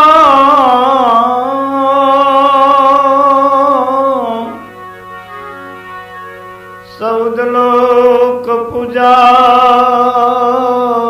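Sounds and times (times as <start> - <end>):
man singing long note: 0.0 - 6.0, 6.8 - 11.0
steady drone: 0.0 - 11.0.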